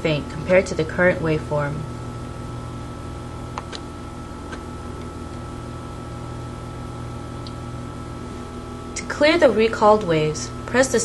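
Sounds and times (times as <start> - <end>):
steady fan-like hum: 0.0 - 11.0.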